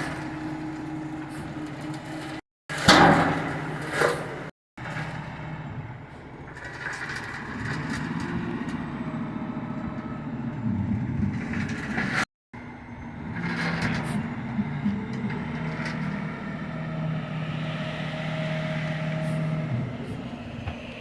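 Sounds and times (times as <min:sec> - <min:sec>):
truck engine hum: 0:00.0 - 0:02.4, 0:03.5 - 0:21.0.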